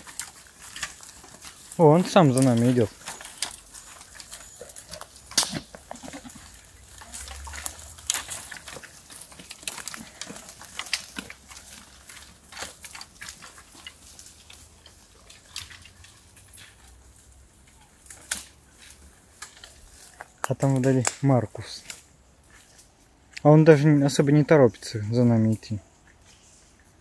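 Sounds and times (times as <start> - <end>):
twigs crackling underfoot: 0.0 - 27.0.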